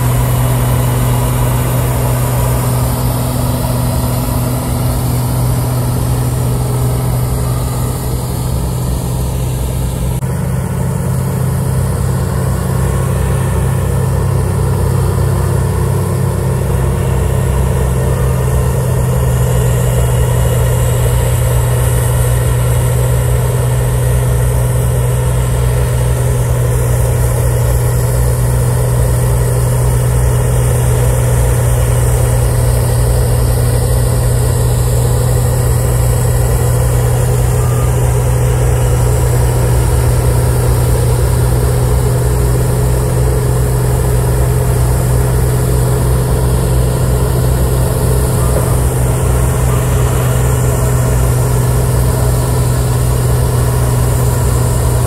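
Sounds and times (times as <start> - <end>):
diesel engine droning under load: 0.0 - 55.0
snow blower rushing: 0.0 - 55.0.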